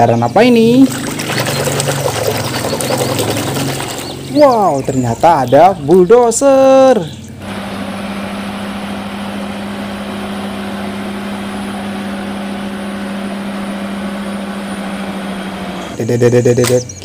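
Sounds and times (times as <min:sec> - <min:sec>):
bulldozer diesel engine humming: 0:00.0 - 0:17.0.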